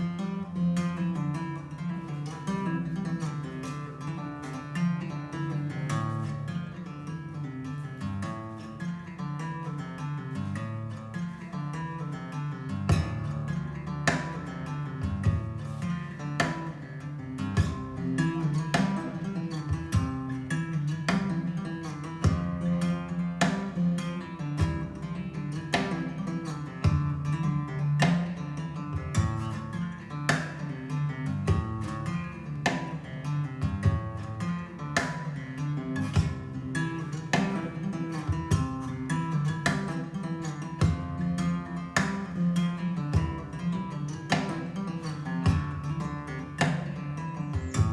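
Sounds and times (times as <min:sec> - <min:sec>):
strummed acoustic guitar music: 0:00.0 - 0:47.9.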